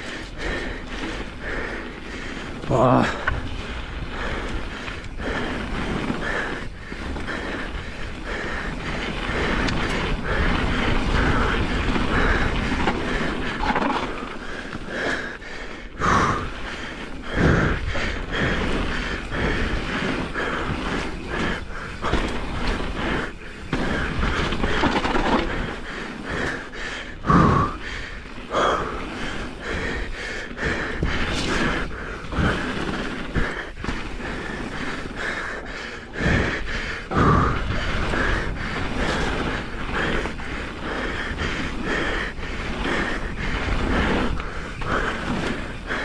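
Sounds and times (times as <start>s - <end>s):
bike chain and frame rattling: 0.0s - 46.0s
knobby tyres rumbling on dirt: 0.0s - 46.0s.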